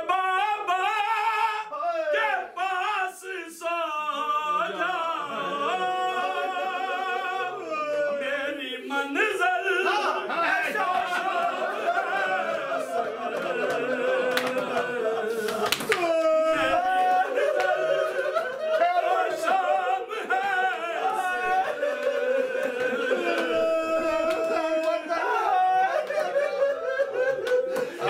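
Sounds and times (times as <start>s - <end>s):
man singing unaccompanied lament: 0.0s - 13.0s, 13.6s - 28.0s.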